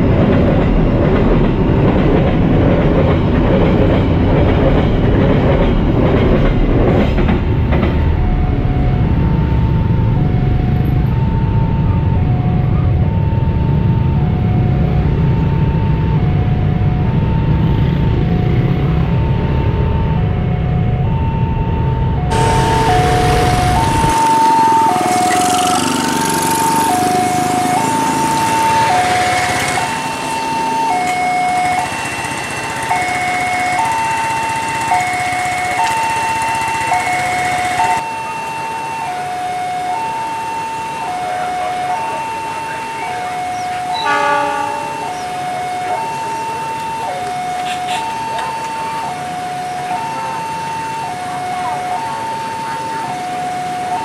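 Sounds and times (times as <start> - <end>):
two-tone level crossing alarm: 7.8 - 54.0.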